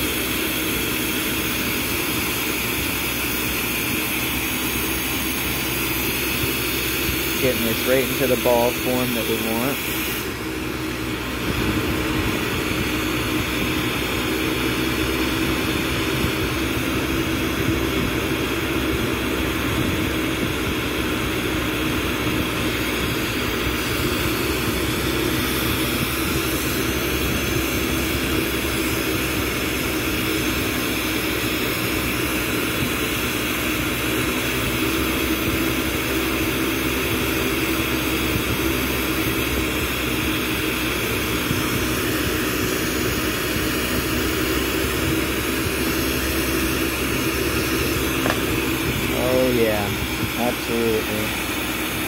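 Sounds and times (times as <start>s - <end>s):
torch flame rushing: 0.1s - 52.0s.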